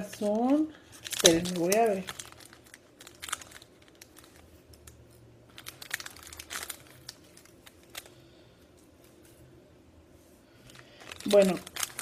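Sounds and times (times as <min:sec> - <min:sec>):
packet crinkling: 0:00.0 - 0:08.4, 0:10.6 - 0:12.0.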